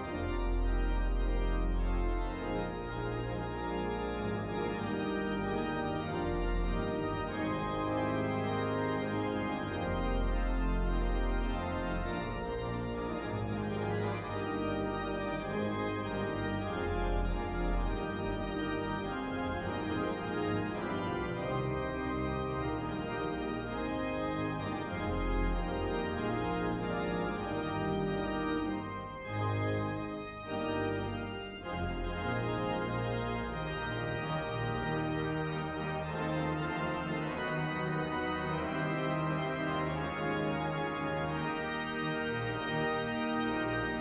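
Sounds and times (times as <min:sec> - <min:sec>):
church organ chords: 0:00.0 - 0:44.0.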